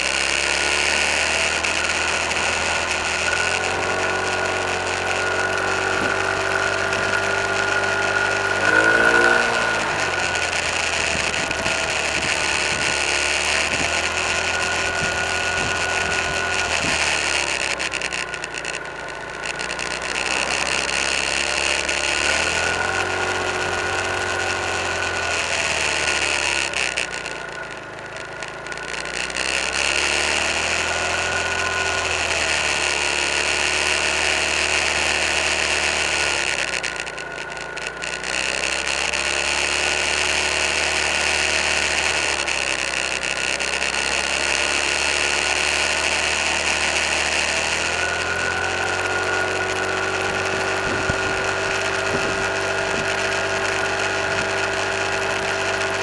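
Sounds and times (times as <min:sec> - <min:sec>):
car engine revving: 0:00.0 - 0:56.0
high-pitched whine: 0:00.0 - 0:56.0.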